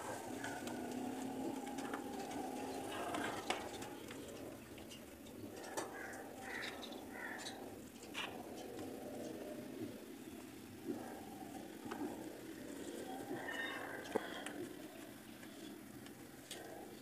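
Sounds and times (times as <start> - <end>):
birds cooing: 0.0 - 17.0
steady background hiss: 0.0 - 17.0.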